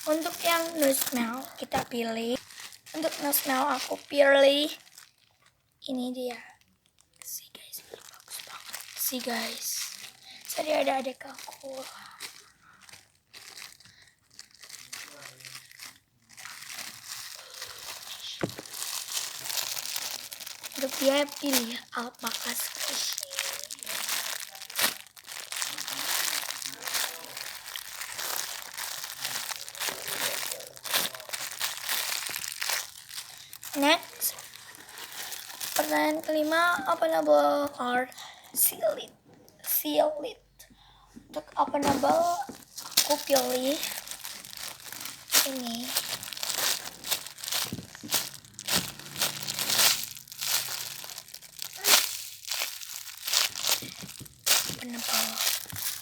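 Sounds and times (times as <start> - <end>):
sharp plastic crackles: 0.0 - 37.7, 41.8 - 56.0
plastic packaging crinkling: 0.0 - 37.8, 41.8 - 56.0.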